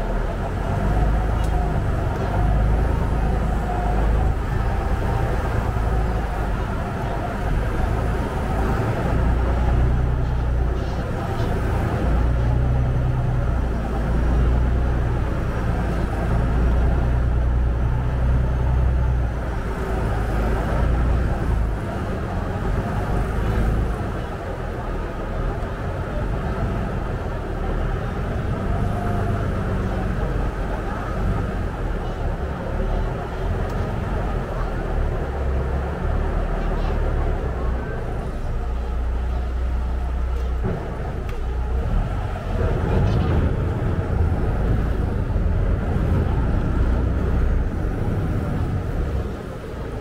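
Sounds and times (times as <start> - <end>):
boat engine low rumble: 0.0 - 50.0.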